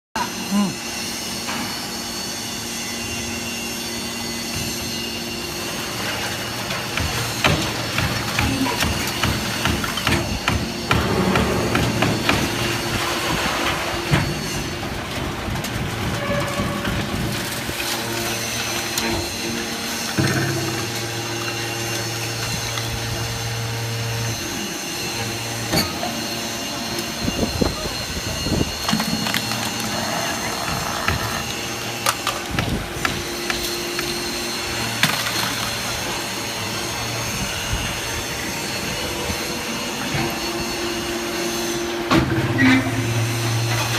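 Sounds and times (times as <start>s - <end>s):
motor and pump humming: 0.2s - 43.9s.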